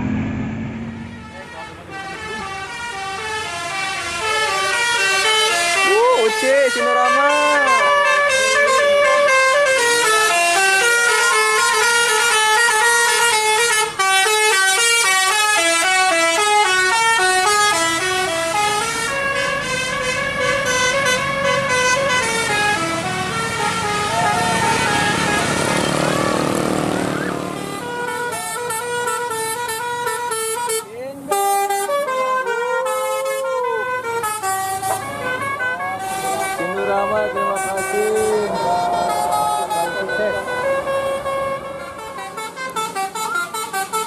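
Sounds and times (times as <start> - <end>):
bus passing: 0.0 - 44.0
multi-tone bus horns playing tunes: 0.7 - 44.0.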